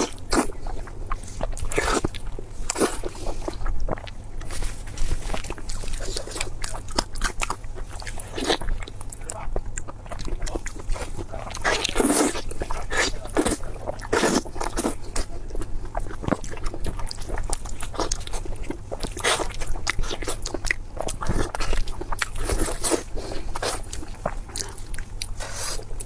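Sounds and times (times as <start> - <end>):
chewing with mouth clicks: 0.0 - 26.0.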